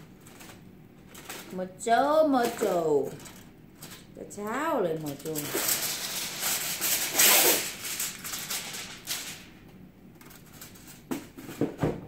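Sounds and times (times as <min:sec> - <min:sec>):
plastic bag rustling: 0:00.0 - 0:09.6, 0:10.2 - 0:11.7.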